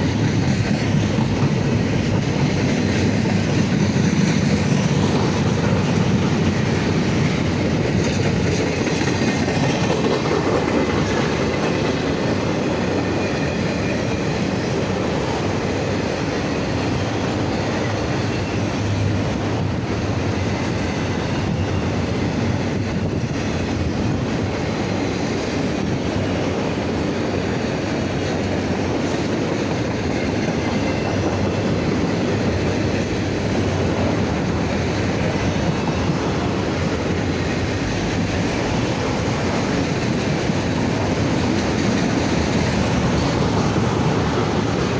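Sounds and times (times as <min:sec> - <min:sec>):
freight train cars rolling: 0:00.0 - 0:44.9
steel wheels clattering on rails: 0:00.0 - 0:44.9.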